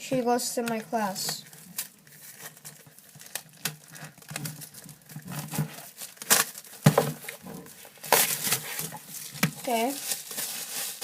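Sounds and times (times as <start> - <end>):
paper rustling and crinkling: 0.1 - 11.0.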